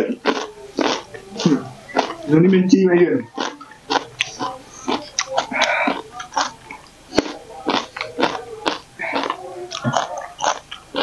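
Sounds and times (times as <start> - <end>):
person chewing crunchy food: 0.0 - 2.2, 3.3 - 11.0.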